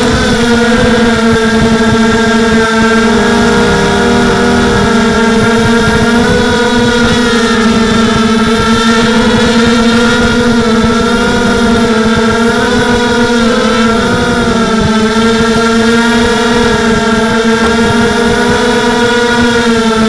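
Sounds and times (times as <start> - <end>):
drone motors and propellers whining: 0.0 - 20.0
rough rumble: 0.0 - 20.0.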